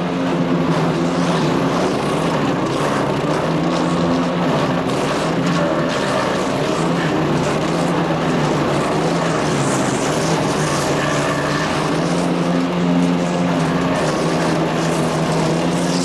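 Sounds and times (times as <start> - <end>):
wood chipper engine drone: 0.0 - 16.0.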